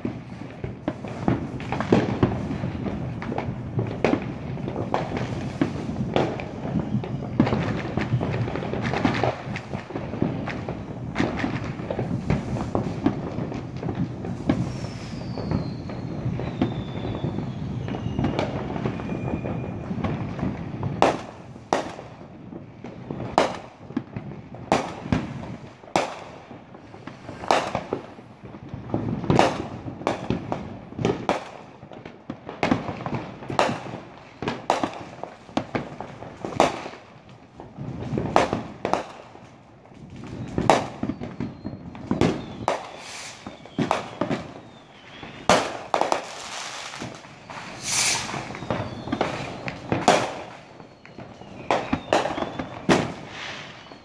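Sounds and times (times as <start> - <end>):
falling firework whistle: 0.0 - 22.2, 22.8 - 37.1, 40.0 - 54.0
fireworks bangs and crackle: 0.0 - 54.0.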